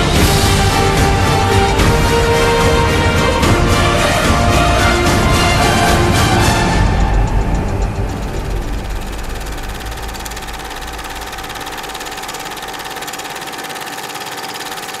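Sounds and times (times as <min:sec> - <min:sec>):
film projector clatter and whir: 0:00.0 - 0:15.0.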